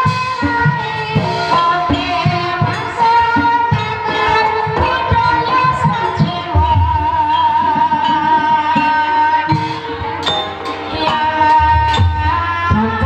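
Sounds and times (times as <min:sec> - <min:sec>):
sharp percussion hits: 0:00.0 - 0:13.0.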